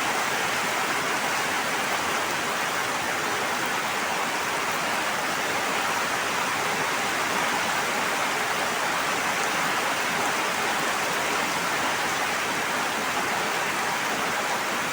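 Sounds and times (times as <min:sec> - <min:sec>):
water rushing: 0:00.0 - 0:14.9.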